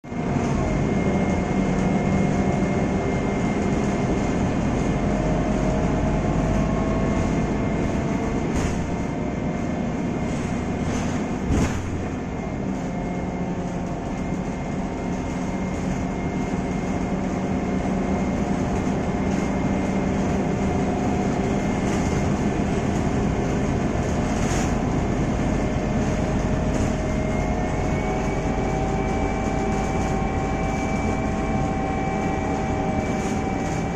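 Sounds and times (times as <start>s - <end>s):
diesel engine and road rumble: 0.0s - 33.9s.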